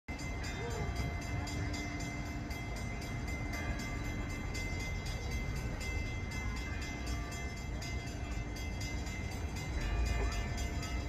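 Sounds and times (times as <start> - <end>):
freight train rumble: 0.1 - 11.0.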